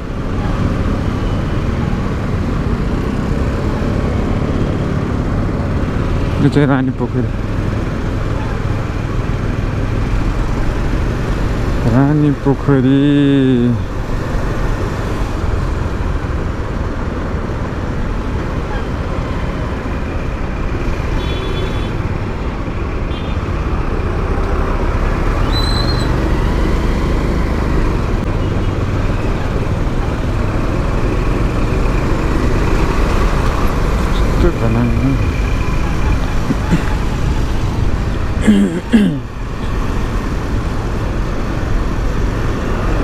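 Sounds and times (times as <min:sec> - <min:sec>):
motorcycle engine and road noise: 0:00.0 - 0:43.0.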